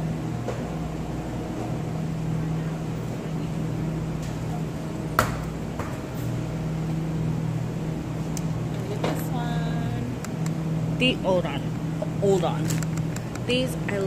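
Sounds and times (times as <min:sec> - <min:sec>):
freezer cases humming: 0:00.0 - 0:14.0.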